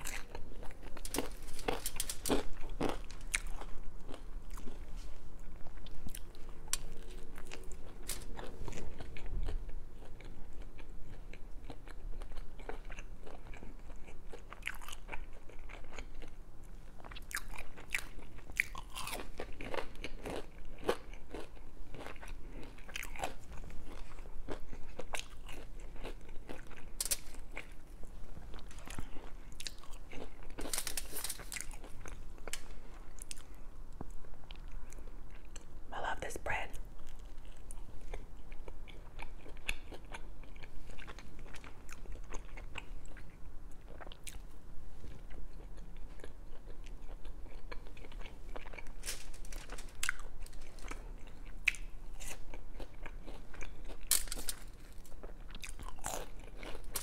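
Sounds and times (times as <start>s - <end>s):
crunchy chewing: 0.0s - 35.7s, 36.7s - 57.0s.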